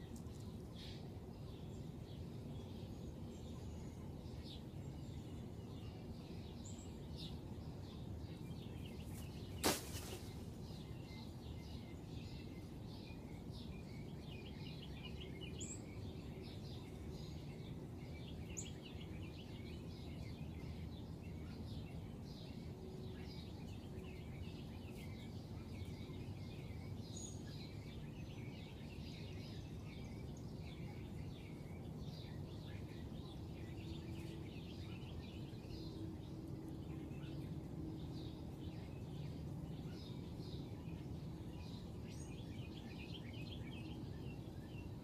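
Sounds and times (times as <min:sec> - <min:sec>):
low ambient rumble: 0:00.0 - 0:45.0
small birds chirping: 0:00.0 - 0:45.0.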